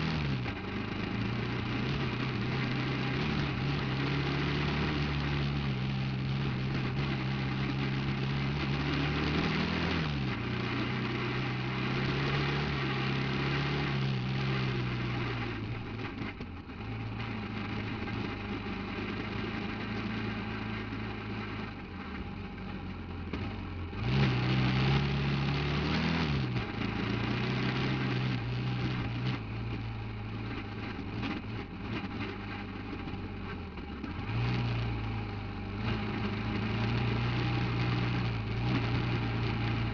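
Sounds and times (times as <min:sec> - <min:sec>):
buggy engine revving: 0:00.0 - 0:39.9
rough driving noise: 0:00.0 - 0:39.9.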